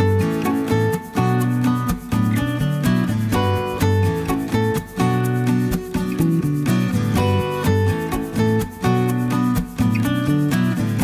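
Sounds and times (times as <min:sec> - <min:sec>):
light plucked guitar tune: 0:00.0 - 0:11.0.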